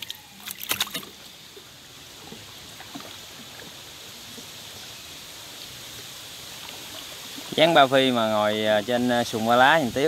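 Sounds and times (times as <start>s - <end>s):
water washing along a boat hull: 0.0s - 10.0s.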